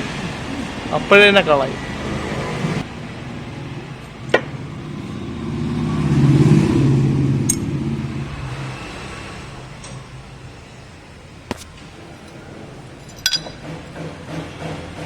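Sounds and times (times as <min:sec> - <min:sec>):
vehicle driving past: 0:00.0 - 0:15.0.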